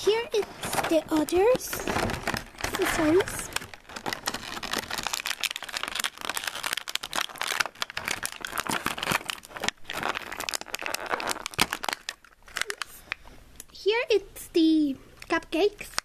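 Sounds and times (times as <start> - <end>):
plastic bag crinkling: 0.0 - 13.2.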